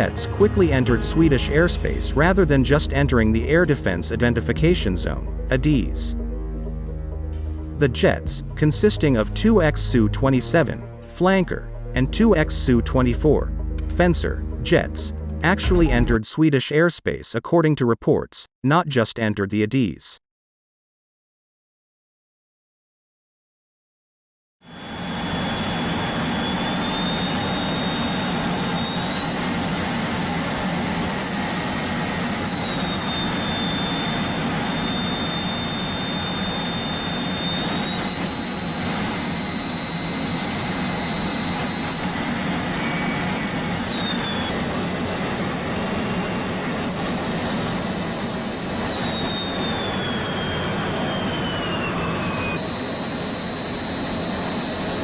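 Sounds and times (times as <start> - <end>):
jet engine whining: 0.0 - 16.2, 24.7 - 55.0.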